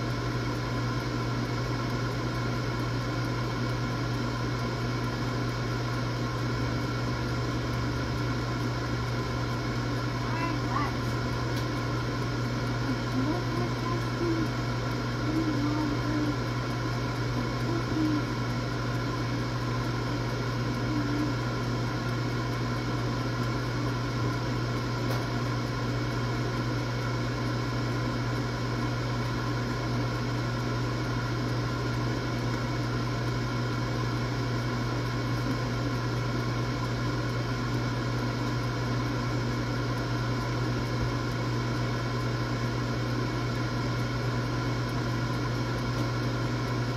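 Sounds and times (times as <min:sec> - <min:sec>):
air fryer humming: 0:00.0 - 0:46.9.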